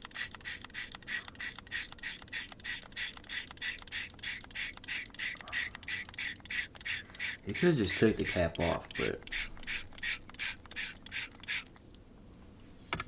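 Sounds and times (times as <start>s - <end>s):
spray bottle hissing: 0.1s - 11.7s.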